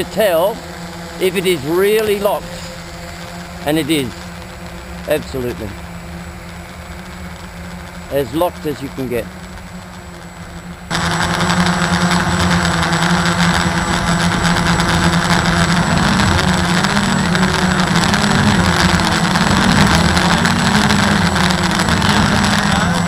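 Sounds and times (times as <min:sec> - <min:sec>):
drone motors buzzing: 0:00.0 - 0:23.0.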